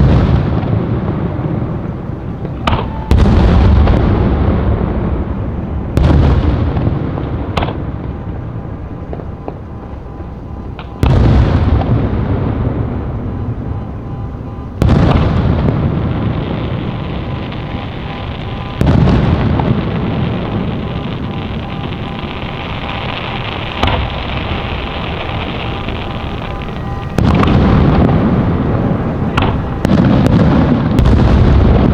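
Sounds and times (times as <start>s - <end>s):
firework rumble and crackle: 0.0s - 31.9s.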